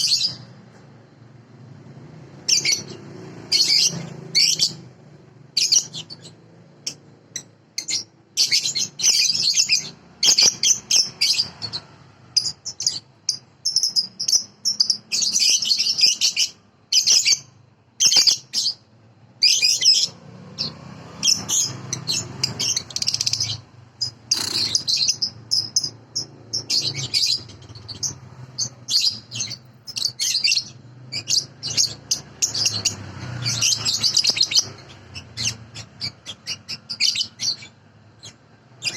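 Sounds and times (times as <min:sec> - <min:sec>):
bird chirping and trilling: 0:00.0 - 0:00.8, 0:01.6 - 0:38.9.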